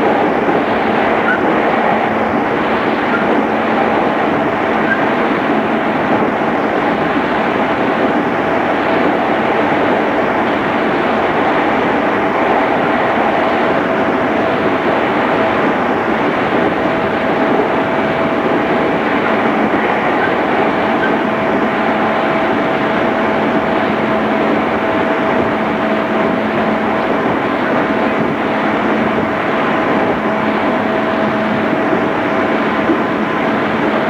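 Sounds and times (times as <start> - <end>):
train constant hum: 0.0 - 34.0
train wheels rumbling on rail: 0.0 - 34.0.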